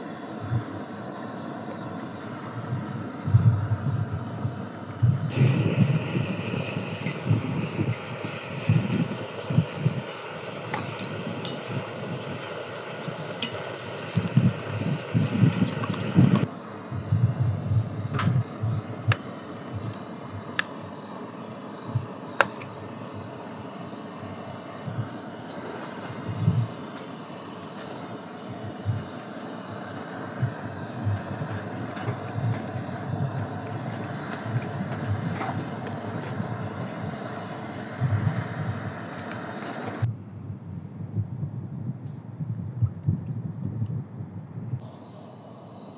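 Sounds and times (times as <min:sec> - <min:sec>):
steady background hiss: 0:00.0 - 0:40.1, 0:44.8 - 0:45.9
steady rushing noise: 0:00.0 - 0:42.0
low buffeting: 0:00.0 - 0:45.9.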